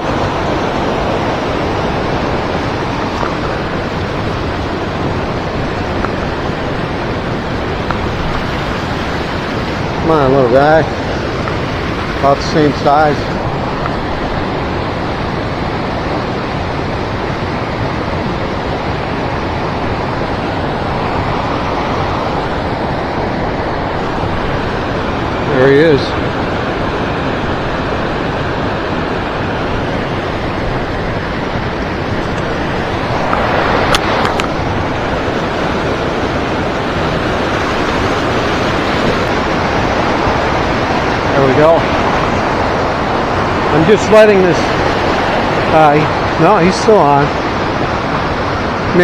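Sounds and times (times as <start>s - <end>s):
river current rushing: 0.0s - 49.0s.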